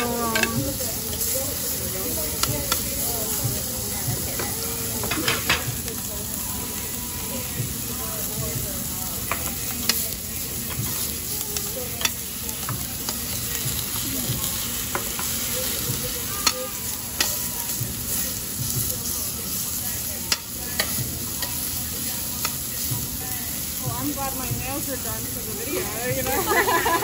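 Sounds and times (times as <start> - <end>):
meat sizzling on a grill: 0.0 - 27.0.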